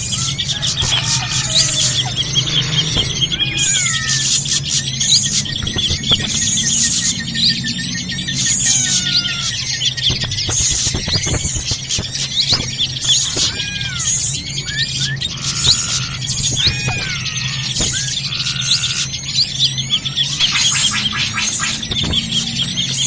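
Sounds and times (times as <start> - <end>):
small birds chirping and whistling: 0.0 - 23.0.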